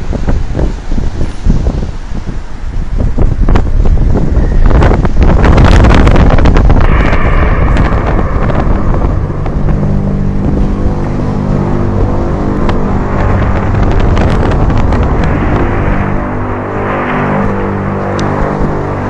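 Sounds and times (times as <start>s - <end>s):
low droning hum: 0.0s - 19.0s
wind buffeting microphone: 0.0s - 19.0s.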